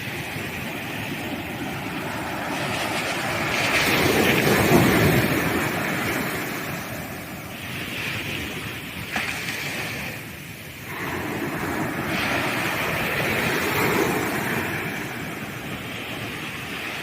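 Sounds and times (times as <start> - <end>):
waves breaking on a beach: 0.0 - 17.0.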